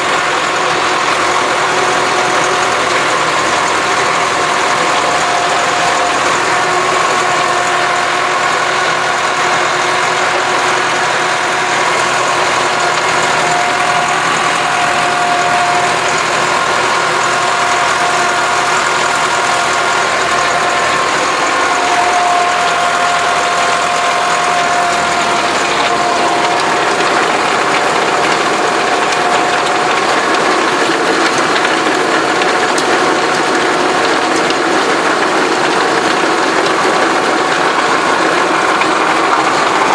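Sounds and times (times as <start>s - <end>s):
constant whine: 0.0s - 39.9s
tractor engine running: 0.0s - 39.9s.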